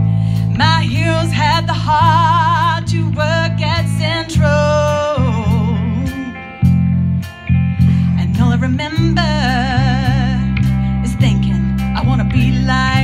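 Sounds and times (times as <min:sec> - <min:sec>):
strummed guitars: 0:00.0 - 0:13.0
woman singing with vibrato: 0:00.4 - 0:06.7, 0:08.0 - 0:13.0.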